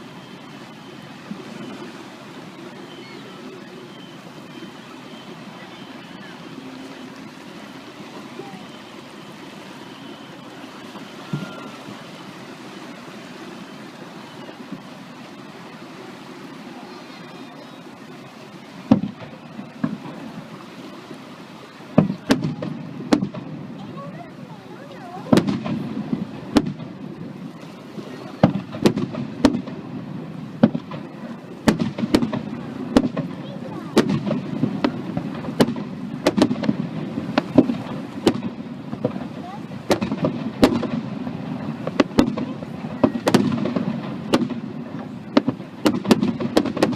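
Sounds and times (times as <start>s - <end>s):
fireworks bursting with bangs: 0.0s - 46.9s
murmuring crowd: 0.0s - 46.9s
surf rushing: 0.0s - 46.9s.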